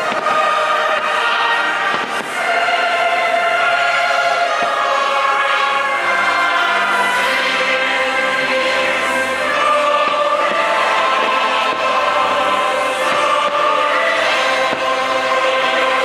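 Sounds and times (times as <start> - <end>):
choir singing: 0.0 - 16.0
fireworks bursting: 0.0 - 16.0.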